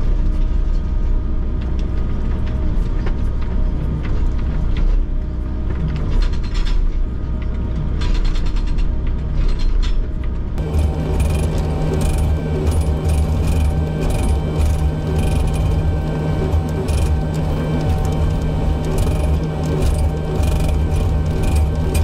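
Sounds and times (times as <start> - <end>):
excavator engine hum: 0.0 - 22.0.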